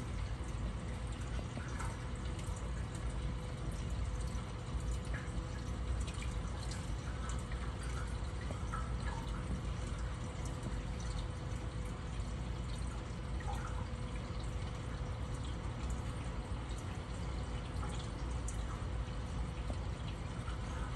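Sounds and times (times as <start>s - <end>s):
faint hum: 0.0s - 20.9s
water trickling and dripping: 0.0s - 20.9s.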